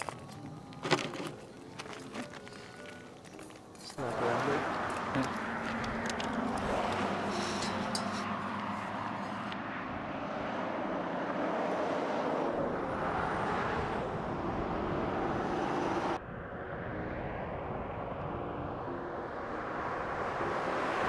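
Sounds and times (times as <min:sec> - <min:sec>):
highway traffic rushing past: 0:00.0 - 0:21.0.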